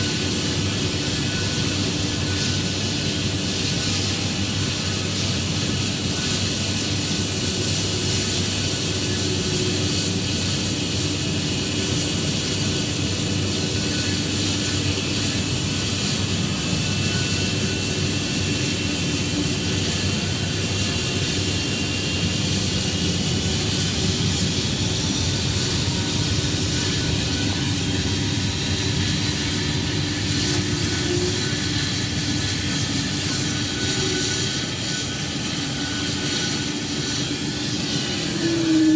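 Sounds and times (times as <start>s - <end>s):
airliner engines rumbling: 0.0s - 38.9s.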